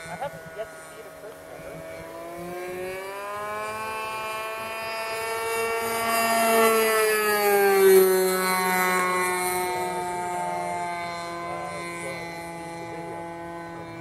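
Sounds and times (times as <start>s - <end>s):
model aircraft motor flying past: 0.0s - 14.0s.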